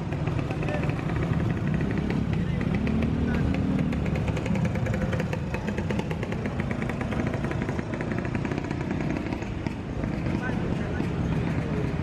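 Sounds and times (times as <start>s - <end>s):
small motorcycle engine running: 0.0s - 12.0s
street traffic: 0.0s - 12.0s.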